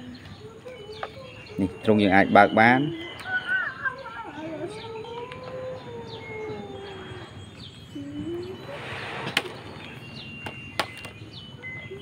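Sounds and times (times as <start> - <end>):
bird chirps: 0.0 - 12.0.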